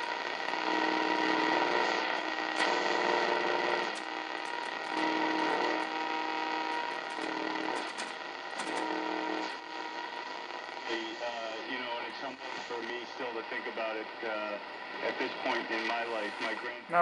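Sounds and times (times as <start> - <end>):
radio whistling tones: 0.0 - 16.8
radio static and hiss: 0.0 - 17.0.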